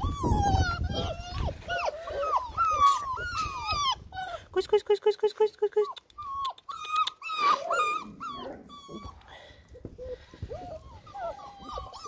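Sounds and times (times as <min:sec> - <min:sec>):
puppies whining: 0:00.0 - 0:04.6, 0:05.8 - 0:12.0.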